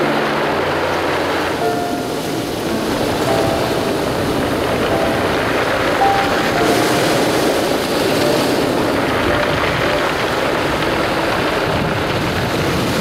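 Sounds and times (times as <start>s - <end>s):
surf rushing: 0.0s - 13.0s.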